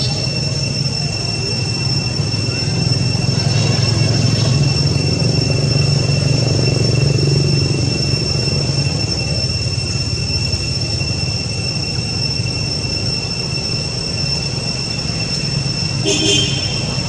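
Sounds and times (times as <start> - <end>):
high-pitched whine: 0.0 - 17.0.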